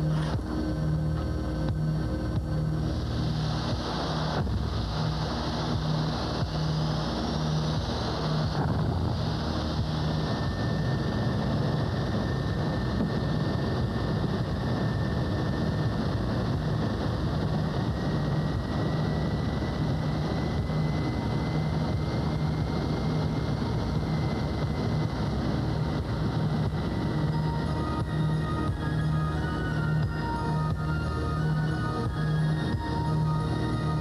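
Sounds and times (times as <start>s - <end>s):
jet engine roar with rising whine: 0.0s - 34.0s
low pulsing throb: 0.0s - 34.0s.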